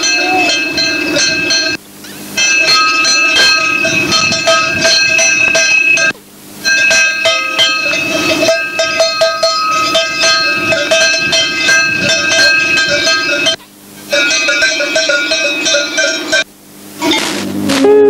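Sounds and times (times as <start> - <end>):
cowbells clanking: 0.0 - 16.5.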